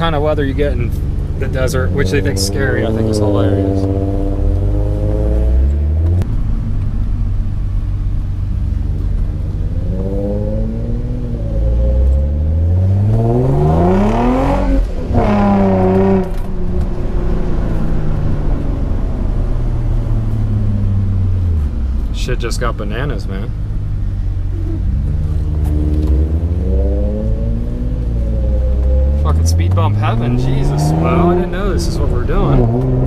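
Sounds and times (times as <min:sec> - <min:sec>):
car engine and exhaust drone: 0:00.0 - 0:33.0.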